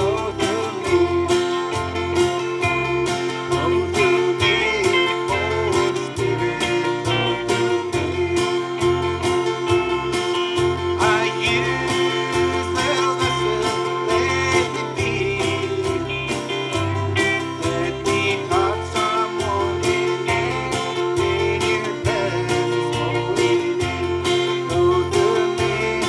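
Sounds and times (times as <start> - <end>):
steady beat: 0.0 - 25.8
bass line: 0.0 - 26.0
man singing: 0.0 - 26.0
strummed acoustic guitar: 0.0 - 26.0.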